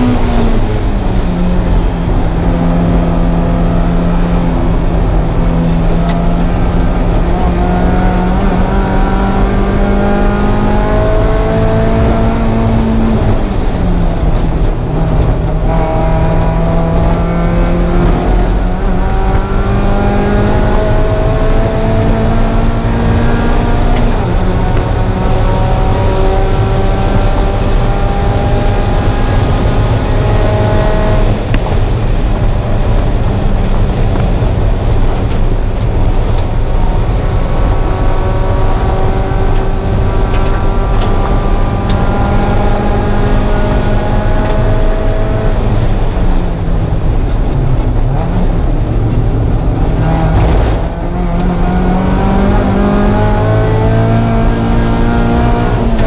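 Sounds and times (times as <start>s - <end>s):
car engine revving hard: 0.0s - 56.0s
wind and road noise rumble: 0.0s - 56.0s.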